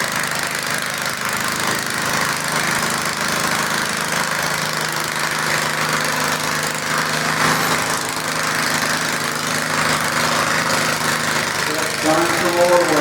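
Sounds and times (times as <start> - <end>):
garden tractor engine running: 0.0 - 13.0.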